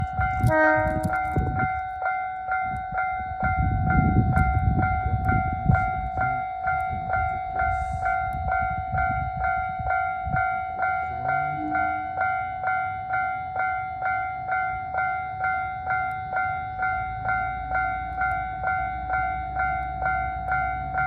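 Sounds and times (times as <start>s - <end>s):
level crossing alarm bell: 0.0s - 21.0s.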